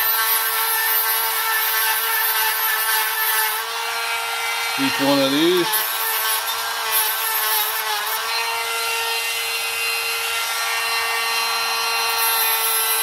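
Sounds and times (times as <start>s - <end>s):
bit grinding metal: 0.0s - 13.0s
rotary tool whining: 0.0s - 13.0s.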